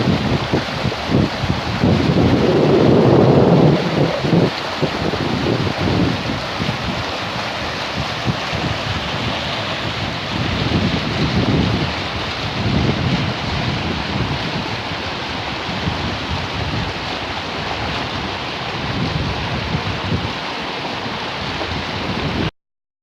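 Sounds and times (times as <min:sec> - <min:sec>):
heavy rain pouring: 0:00.0 - 0:22.5
low gusty rumble: 0:00.0 - 0:22.5.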